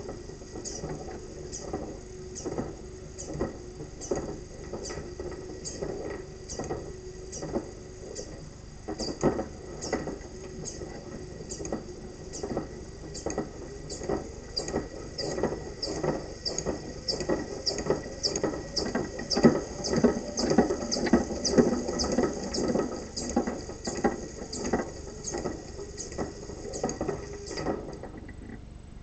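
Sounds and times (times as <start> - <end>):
steady high whine: 0.0 - 29.0.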